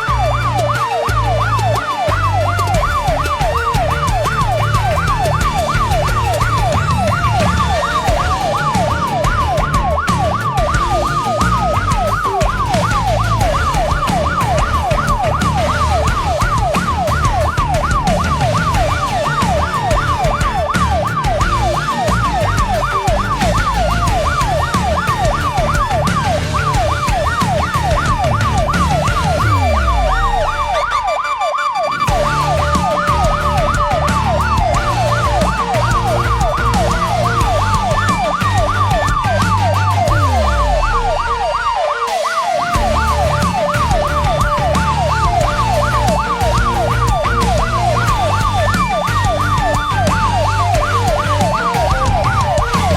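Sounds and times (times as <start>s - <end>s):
siren wailing: 0.0s - 52.9s
siren yelping: 0.0s - 52.9s.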